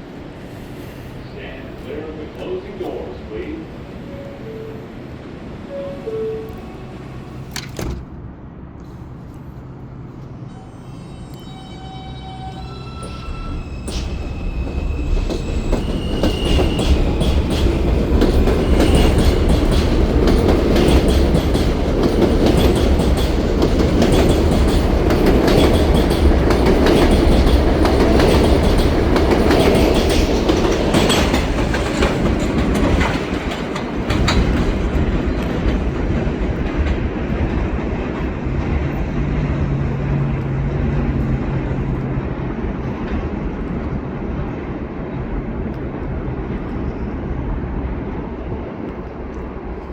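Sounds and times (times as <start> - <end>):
subway train wheels clacking: 0.0 - 49.9.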